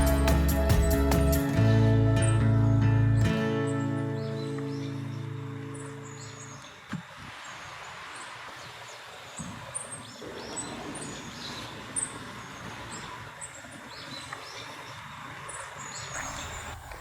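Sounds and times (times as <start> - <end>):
songbirds calling: 2.2 - 17.0.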